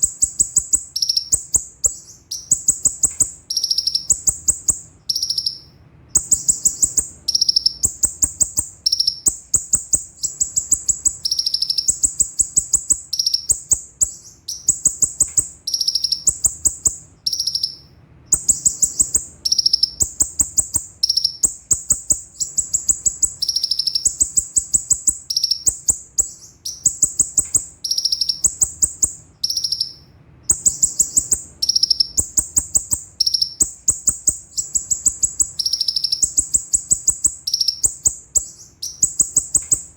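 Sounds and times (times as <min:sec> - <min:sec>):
bird singing high trills: 0:00.0 - 0:39.9.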